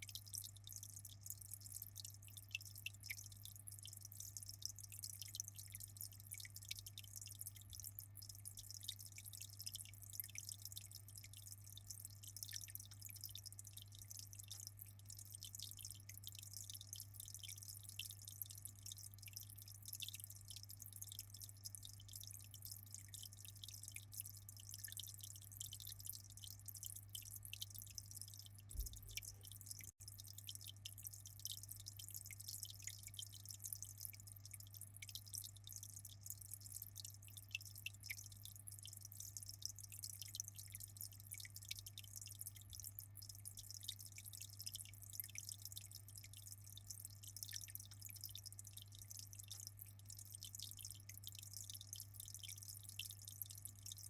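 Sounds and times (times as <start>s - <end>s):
aquarium water trickling and bubbling: 0.0s - 54.0s.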